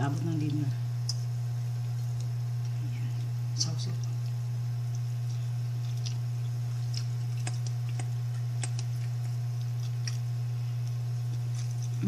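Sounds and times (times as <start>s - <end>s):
steady low hum: 0.0s - 12.0s
soft eating clicks: 0.3s - 12.0s.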